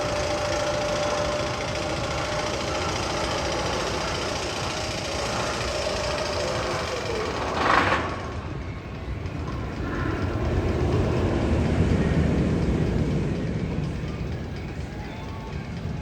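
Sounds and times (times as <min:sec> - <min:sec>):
roller coaster rumble: 0:00.0 - 0:16.0.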